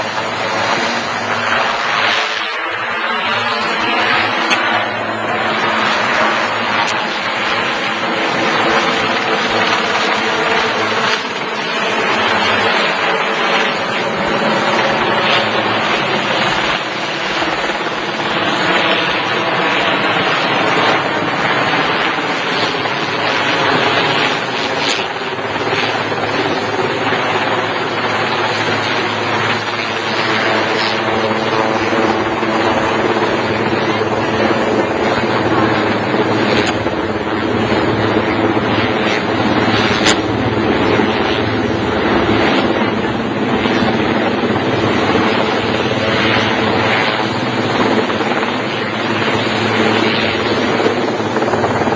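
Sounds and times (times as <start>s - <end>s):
helicopter engine and rotor: 0.0s - 51.9s.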